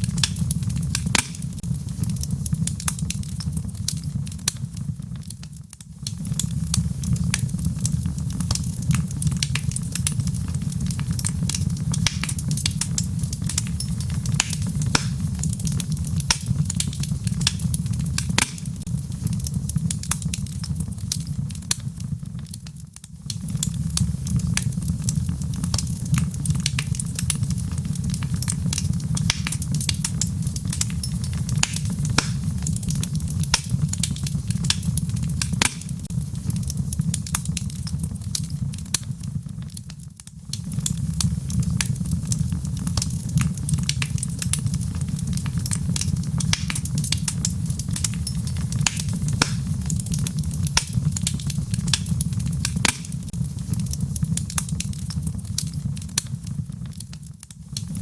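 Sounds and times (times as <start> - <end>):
burning wood crackling and popping: 0.0 - 58.0
fire flames rumbling: 0.0 - 58.0.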